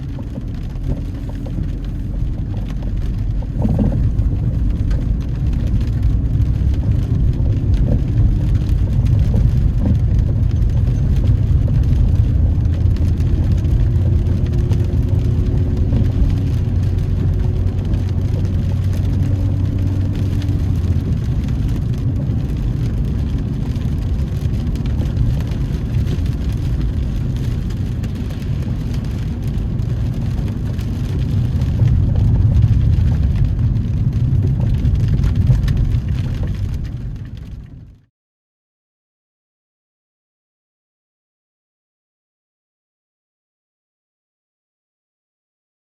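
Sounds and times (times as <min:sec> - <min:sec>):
engine and tyre rumble: 0:00.0 - 0:38.1.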